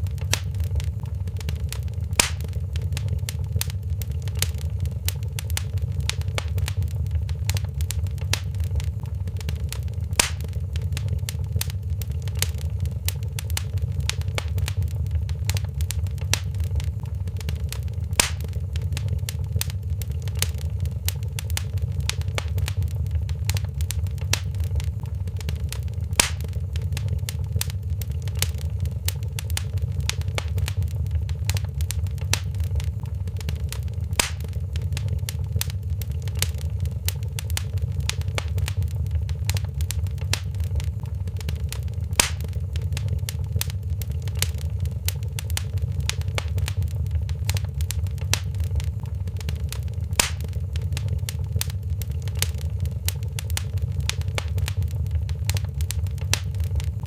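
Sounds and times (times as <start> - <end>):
louder fire pop: 0.0 - 57.0
wood fire crackling: 0.0 - 57.0.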